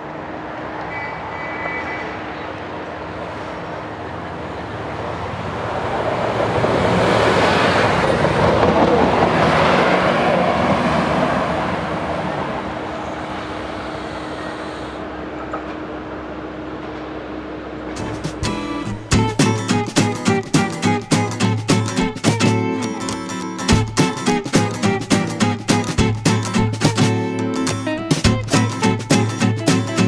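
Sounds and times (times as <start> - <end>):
diesel railcar passing: 0.0 - 30.0.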